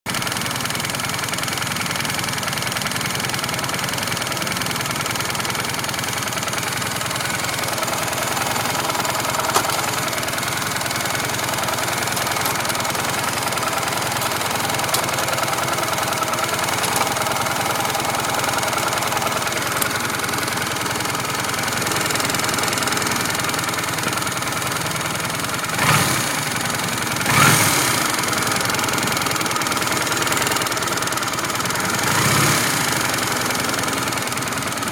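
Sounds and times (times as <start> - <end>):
motorcycle engine idling with ticking: 0.1 - 34.9.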